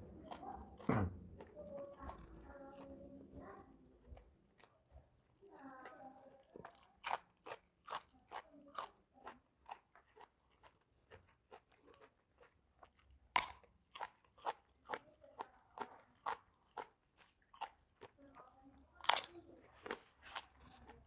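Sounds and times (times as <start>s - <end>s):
crunching of raw eggplant being chewed: 0.3s - 3.0s, 4.0s - 21.0s.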